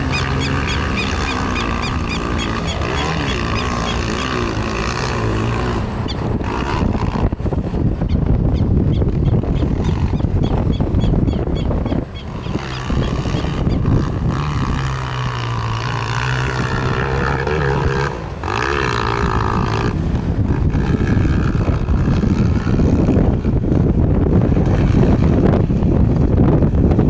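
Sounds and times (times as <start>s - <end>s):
dirt bike engine under throttle: 0.0s - 27.0s
wind rumbling on microphone: 0.0s - 27.0s.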